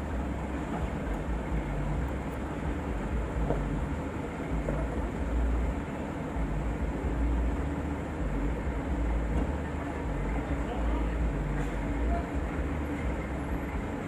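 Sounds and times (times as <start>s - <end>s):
truck diesel engines rumbling: 0.0s - 14.0s.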